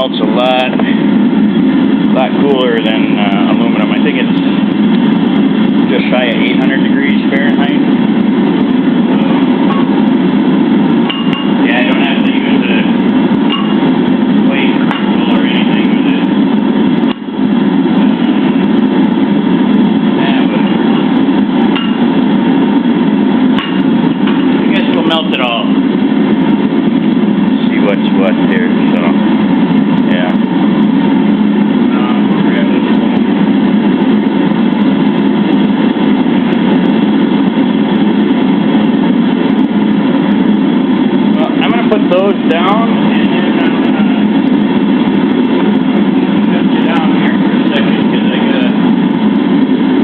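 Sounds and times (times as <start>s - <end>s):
furnace roaring steadily: 0.0s - 50.0s.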